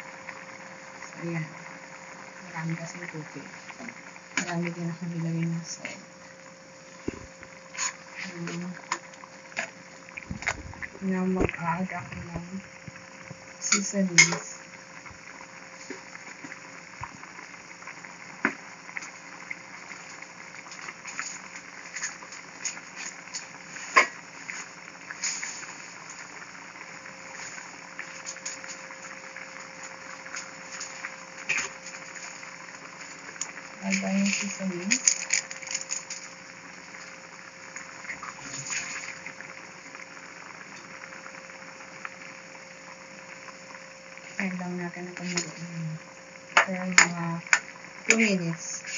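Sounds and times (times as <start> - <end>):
broth boiling in a pot: 0.0 - 48.9.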